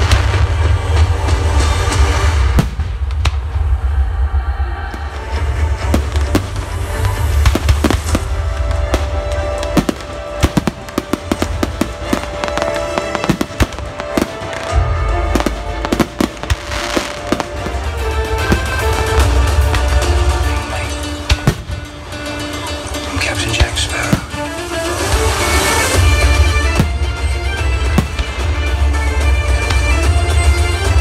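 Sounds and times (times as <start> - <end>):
fireworks bangs and crackles: 0.0 - 31.0
music playing: 0.0 - 31.0.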